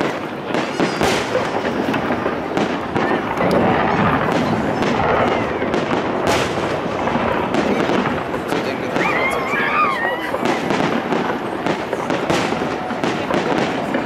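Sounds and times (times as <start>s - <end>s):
fireworks bangs and crackling: 0.0s - 14.0s.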